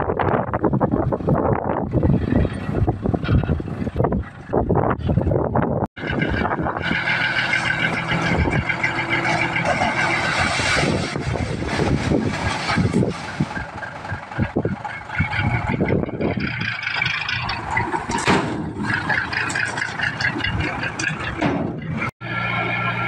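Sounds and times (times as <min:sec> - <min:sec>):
diesel engine under load: 0:00.0 - 0:23.0
knocks and rumbles: 0:00.4 - 0:22.1.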